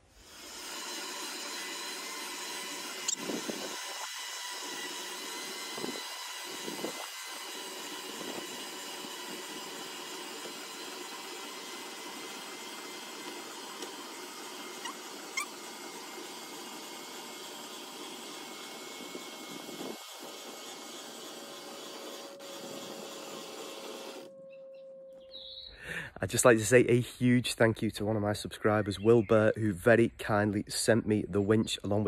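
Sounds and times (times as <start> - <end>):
electric winch whining: 0.0 - 25.7.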